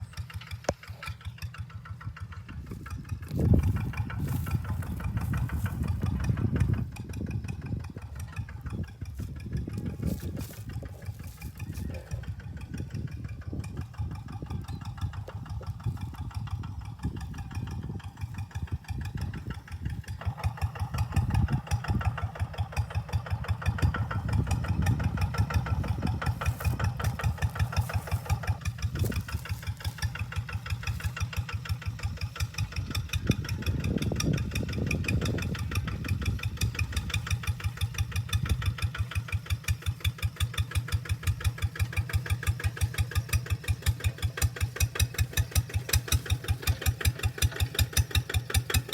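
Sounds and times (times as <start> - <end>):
tractor engine idling: 0.0 - 48.9.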